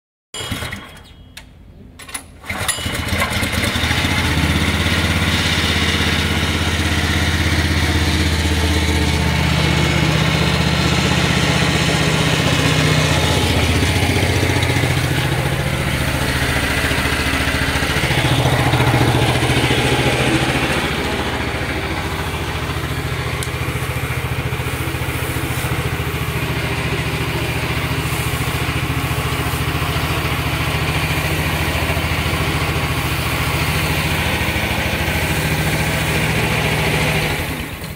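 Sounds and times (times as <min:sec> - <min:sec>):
small engine running: 0:02.5 - 0:37.9.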